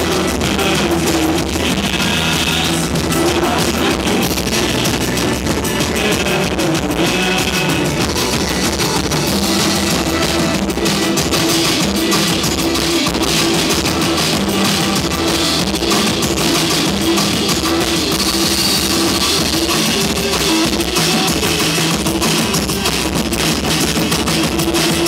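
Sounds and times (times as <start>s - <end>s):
rock band playing: 0.0s - 25.0s.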